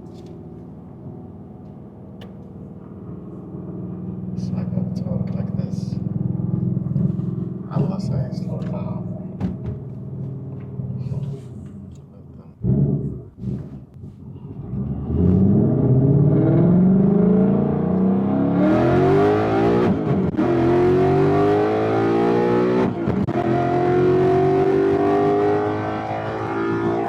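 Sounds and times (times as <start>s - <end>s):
car engine accelerating hard: 0.1s - 27.0s.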